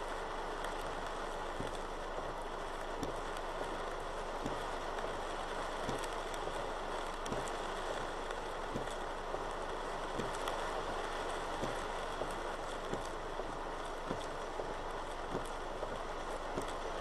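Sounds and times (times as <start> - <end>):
close raindrops striking: 0.0 - 17.0
heavy rain falling: 0.1 - 17.0.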